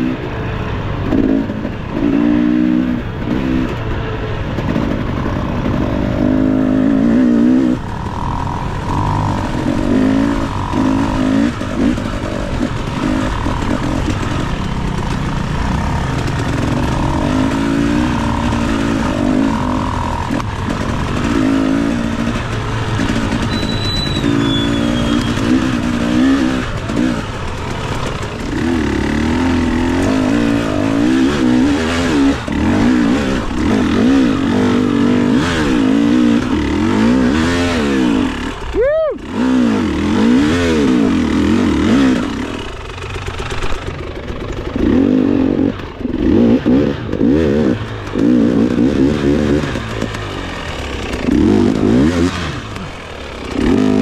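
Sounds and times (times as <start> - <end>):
dirt bike engine revving: 0.0 - 54.0
rough mechanical noise: 0.0 - 54.0.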